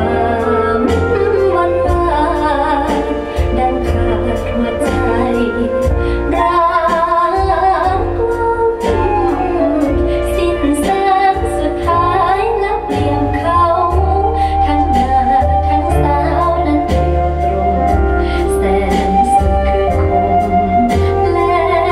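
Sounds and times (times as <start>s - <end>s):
instrumental backing with bass line: 0.0s - 21.9s
woman singing: 0.0s - 21.9s.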